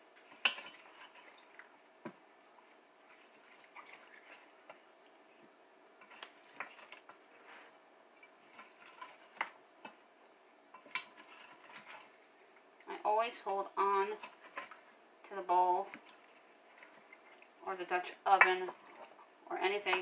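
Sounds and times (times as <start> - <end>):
wooden spoon stirring stew: 0.0 - 20.0.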